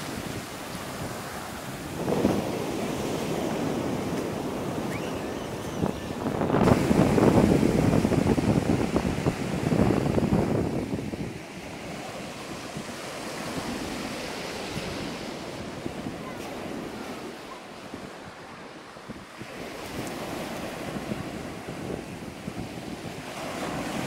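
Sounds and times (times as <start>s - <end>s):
waves on pebble beach: 0.0s - 24.0s
wind buffeting microphone: 0.0s - 24.0s.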